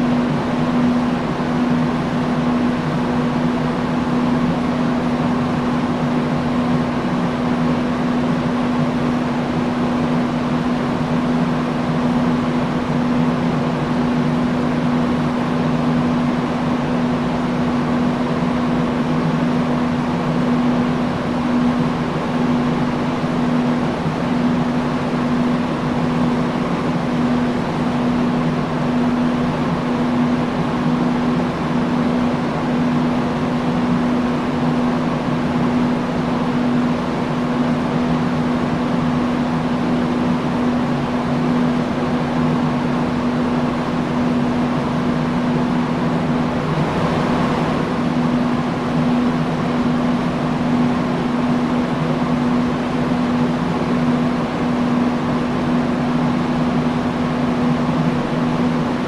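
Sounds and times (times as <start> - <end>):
fan air rushing: 0.0 - 59.0.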